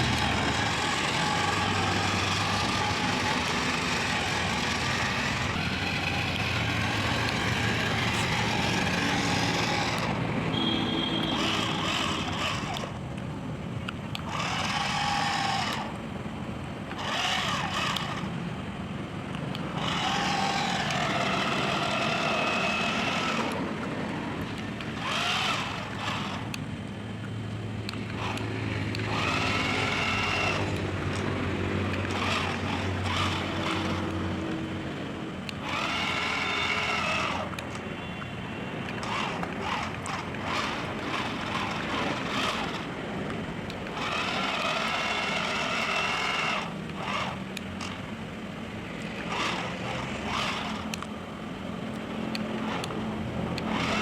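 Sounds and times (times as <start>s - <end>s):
toy electric motor whining: 0.0s - 13.1s, 13.9s - 16.1s, 16.8s - 18.4s, 19.4s - 26.7s, 27.9s - 48.1s, 49.1s - 51.3s, 52.2s - 54.0s.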